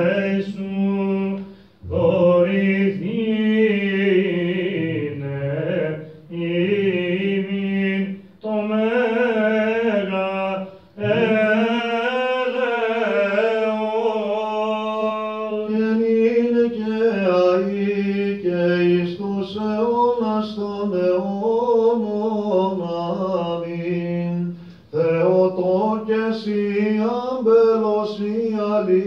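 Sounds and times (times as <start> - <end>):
cantor chanting melisma: 0.0 - 28.3.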